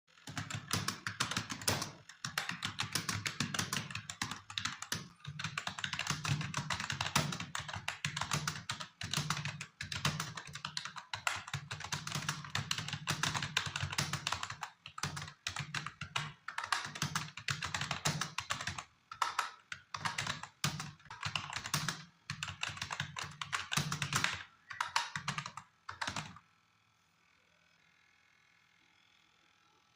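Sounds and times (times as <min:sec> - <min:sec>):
fast keyboard typing: 0:00.2 - 0:26.4.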